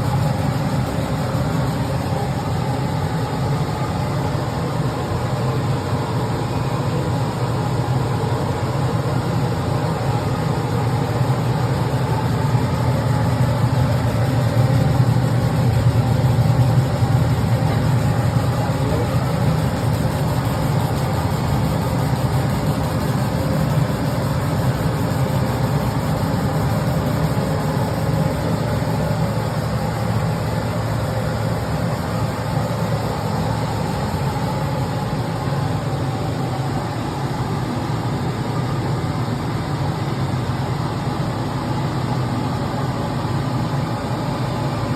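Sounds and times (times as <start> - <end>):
machine motors and fans humming: 0.0 - 44.9.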